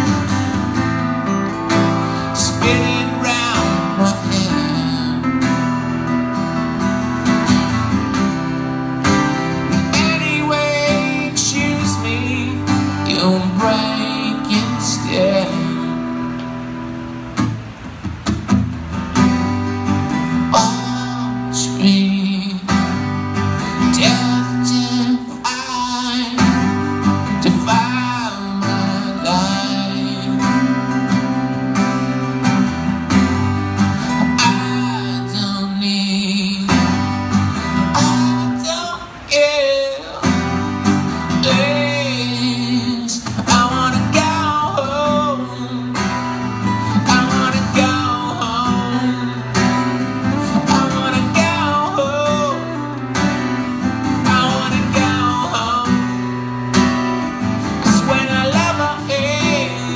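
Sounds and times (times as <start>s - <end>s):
two acoustic guitars playing: 0.0s - 59.9s.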